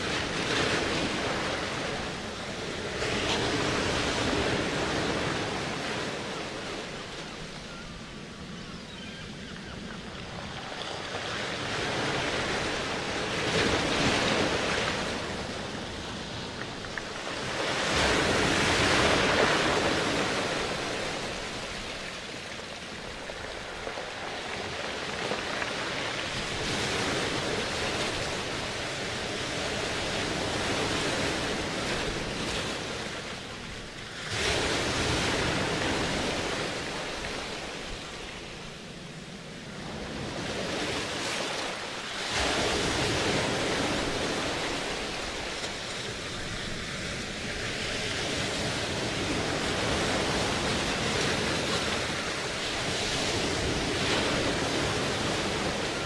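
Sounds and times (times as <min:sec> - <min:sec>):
ocean surf: 0:00.0 - 0:56.0.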